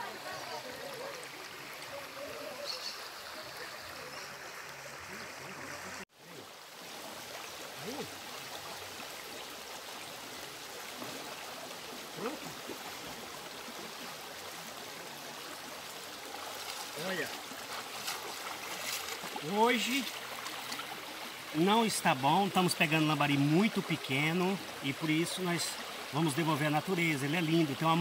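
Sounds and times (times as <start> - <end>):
stream flowing over stones: 0.0 - 28.0.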